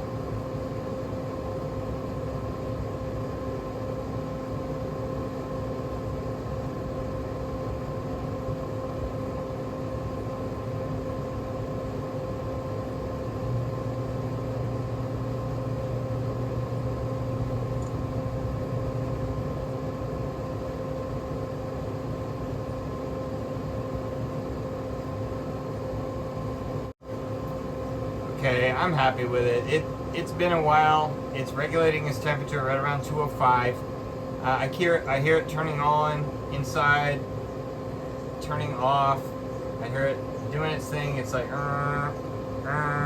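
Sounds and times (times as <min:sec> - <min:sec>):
deeper motor hum: 0:00.0 - 0:43.0
grill fan motor hum: 0:00.0 - 0:43.0.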